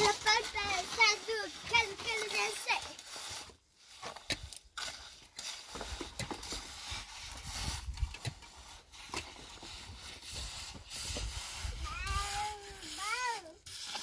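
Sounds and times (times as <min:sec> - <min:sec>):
light knocks and scraping: 0:00.0 - 0:14.0.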